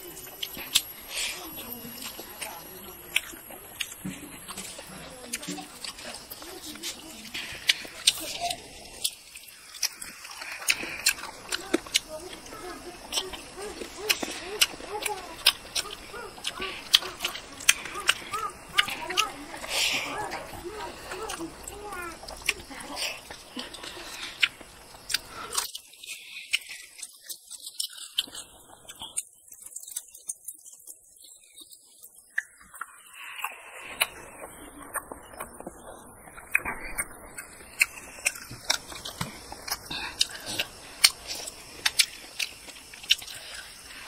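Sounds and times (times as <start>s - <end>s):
wet chewing and lip-smacking: 0.0s - 44.0s.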